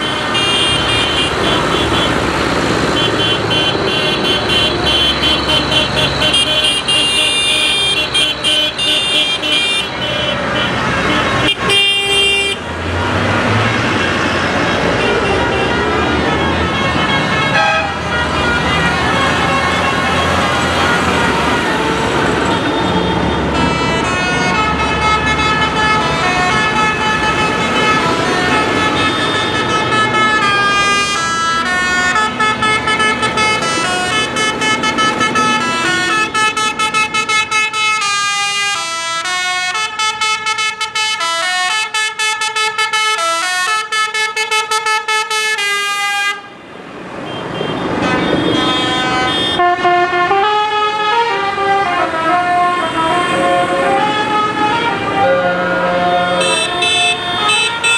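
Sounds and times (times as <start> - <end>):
tractor engines rumbling: 0.0 - 57.9
multi-tone horn playing a tune: 3.0 - 12.6, 14.9 - 46.5, 48.0 - 57.9.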